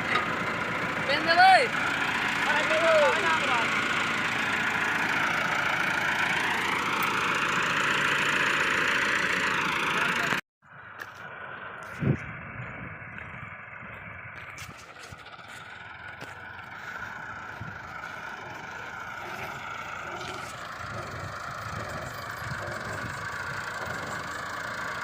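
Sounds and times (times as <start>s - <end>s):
machine engine rumbling: 0.0s - 25.0s.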